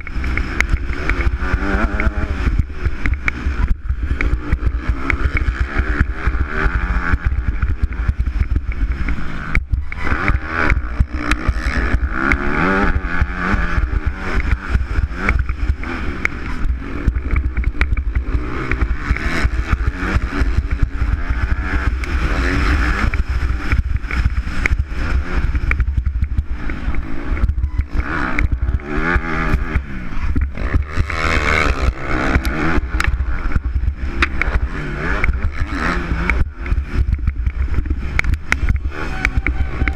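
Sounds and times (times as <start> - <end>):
motocross bike engine revving: 0.0 - 39.9
wind rumble on microphone: 0.0 - 39.9.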